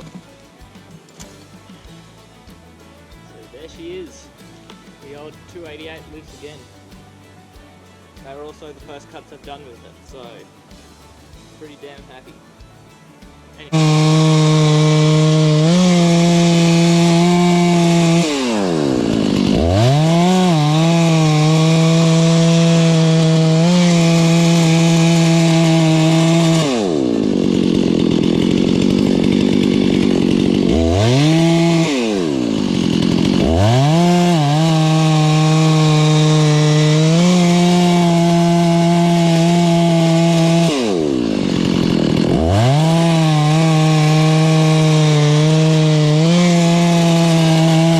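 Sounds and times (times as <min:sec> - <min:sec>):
chainsaw cutting wood: 0:00.0 - 0:12.4, 0:13.0 - 0:47.9.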